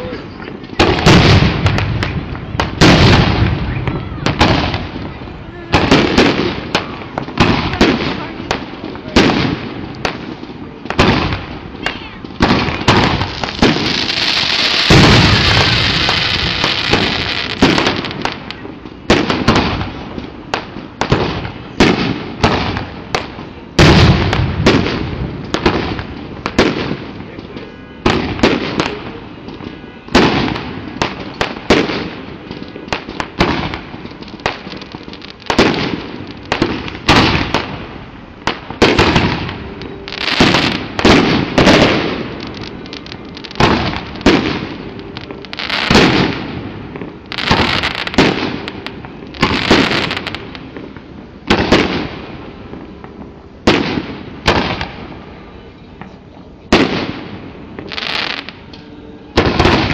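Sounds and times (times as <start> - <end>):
fireworks bursting with echoing rumble: 0.0 - 55.4, 56.6 - 58.6, 59.3 - 59.9.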